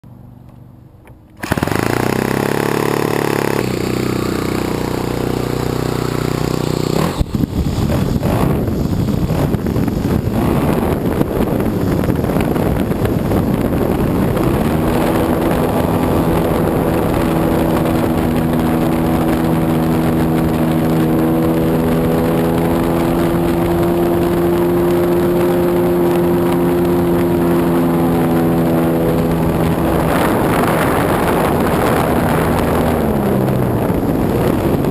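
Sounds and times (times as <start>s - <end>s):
model plane engine running: 1.4s - 34.9s.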